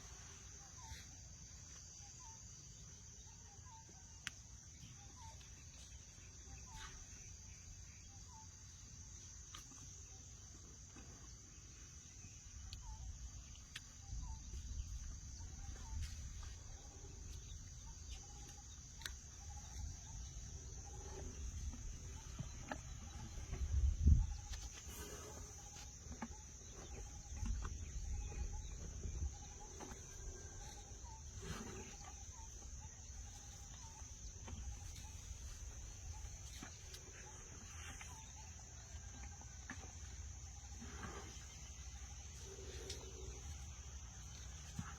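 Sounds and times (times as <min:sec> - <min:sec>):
faint chirps: 0:00.0 - 0:44.9
insects droning: 0:00.0 - 0:44.9.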